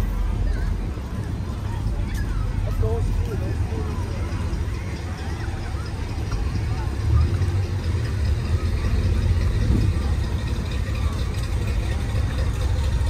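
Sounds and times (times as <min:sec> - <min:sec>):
faint crowd chatter: 0:00.0 - 0:13.0
steady low rumble: 0:00.0 - 0:13.0.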